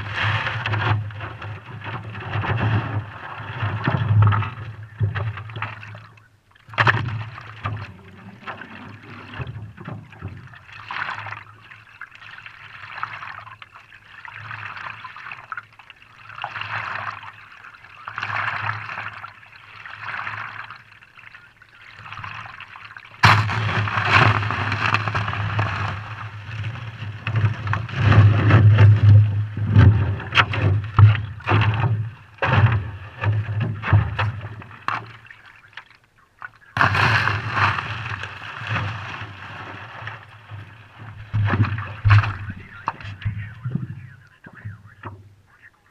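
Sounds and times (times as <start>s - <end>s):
water slapping against board: 0.0s - 45.7s
paddle strokes splashing: 0.0s - 45.9s.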